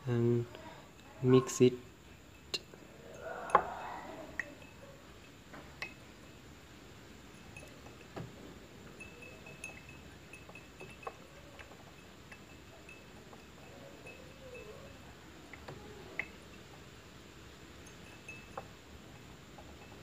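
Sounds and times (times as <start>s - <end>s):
faint high ringing: 0.0s - 20.0s
stirring rod clinking on glass beaker: 1.9s - 6.5s, 7.2s - 20.0s.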